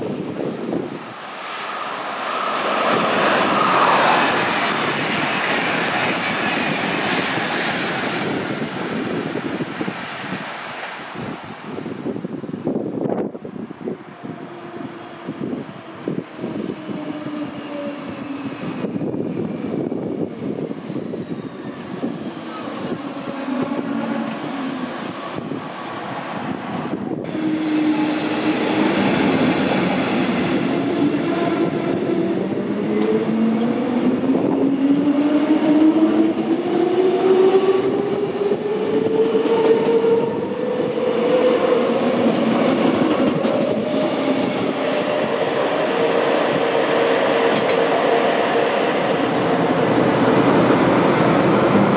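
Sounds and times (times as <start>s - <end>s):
train wheels on rails: 0.6s - 11.4s, 14.2s - 51.9s.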